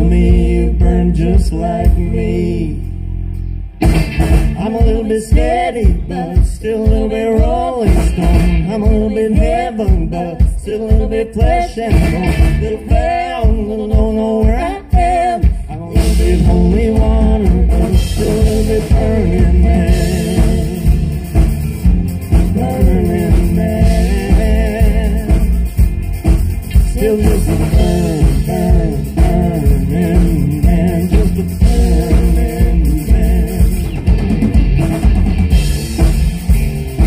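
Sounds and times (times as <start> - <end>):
country band playing: 0.0 - 37.0.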